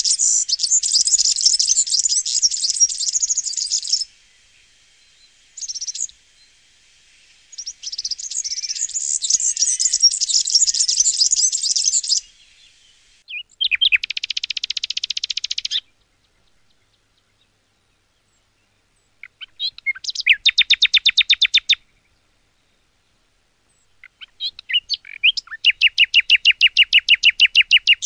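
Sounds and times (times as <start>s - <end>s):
songbird twittering and trilling: 0.0s - 28.0s.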